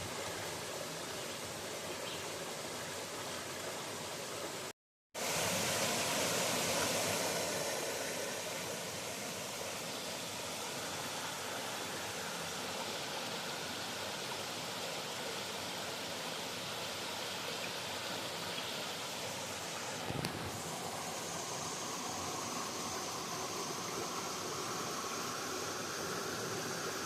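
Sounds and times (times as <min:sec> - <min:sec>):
river water flowing over rocks: 0:00.0 - 0:27.0.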